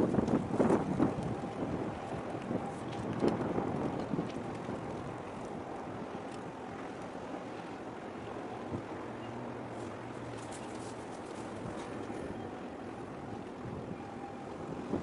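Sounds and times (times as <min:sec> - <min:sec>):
wind over microphone: 0:00.0 - 0:15.0.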